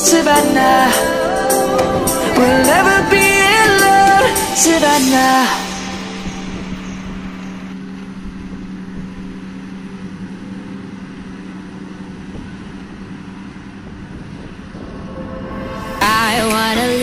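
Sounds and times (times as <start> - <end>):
harvester and tractor engines droning: 0.0 - 17.0.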